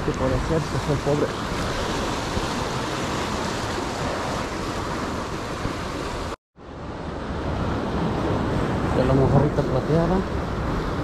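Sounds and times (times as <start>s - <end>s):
ocean surf washing over rocks: 0.0s - 11.0s.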